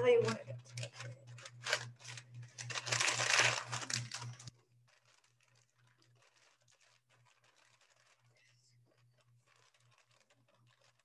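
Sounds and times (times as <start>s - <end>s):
parchment paper crinkling: 0.0s - 11.0s
slime squishing: 0.0s - 11.0s.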